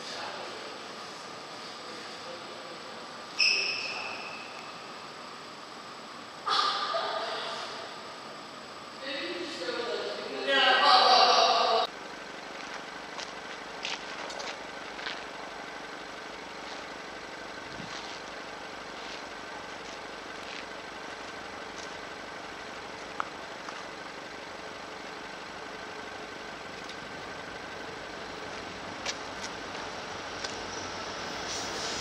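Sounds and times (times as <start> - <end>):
distant diesel locomotives droning: 0.0 - 32.0.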